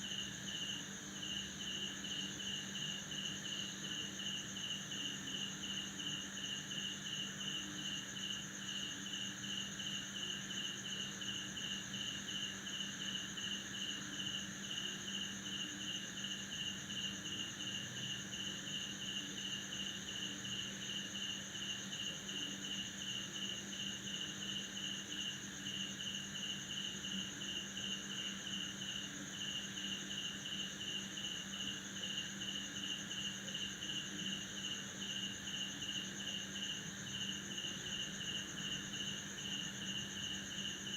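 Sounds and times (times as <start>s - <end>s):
continuous high cricket trill: 0.0s - 40.9s
cricket chirping: 0.0s - 40.9s.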